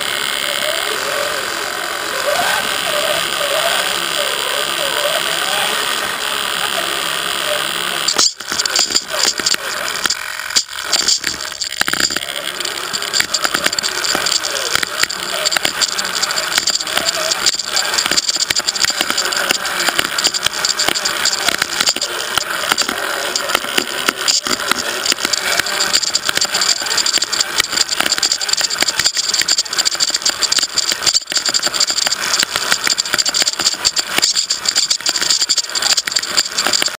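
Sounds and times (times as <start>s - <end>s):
chassis rattling: 0.0s - 37.0s
electric motor and gears whining: 0.0s - 37.0s.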